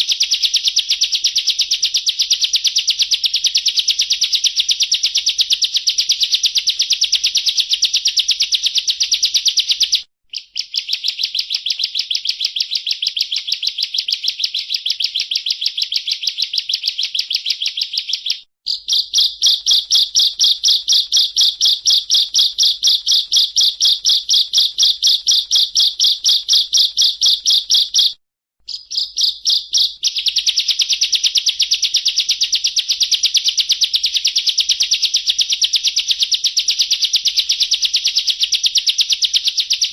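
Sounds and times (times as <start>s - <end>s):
bird singing rapid trill: 0.0s - 39.9s.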